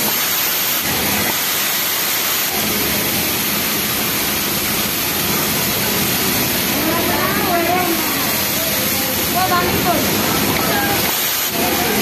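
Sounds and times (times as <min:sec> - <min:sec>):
industrial sewing machines running: 0:00.0 - 0:12.0.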